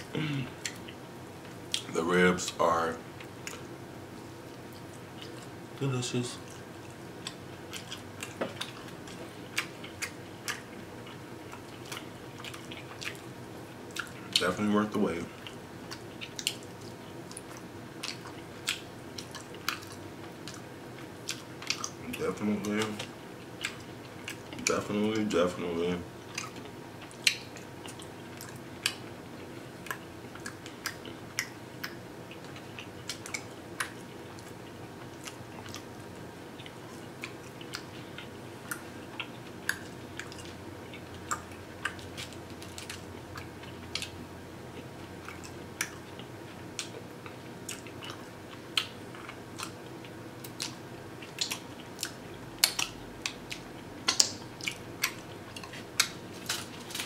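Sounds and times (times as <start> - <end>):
man chewing: 0.0 - 2.6, 3.2 - 5.6, 6.4 - 14.4, 15.4 - 24.8, 26.2 - 57.0
faint steady hum: 0.0 - 57.0.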